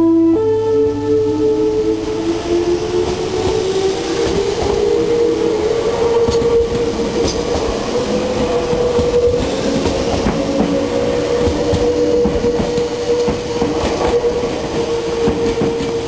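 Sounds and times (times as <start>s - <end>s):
electric train rumbling past: 0.0s - 16.0s
train whine rising in pitch: 0.0s - 16.0s.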